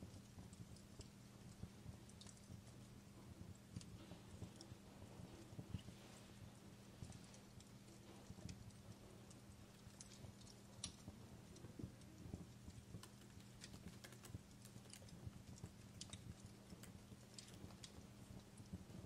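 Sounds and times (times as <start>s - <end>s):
fireplace crackling: 0.0s - 19.0s
low steady hum: 0.0s - 19.0s.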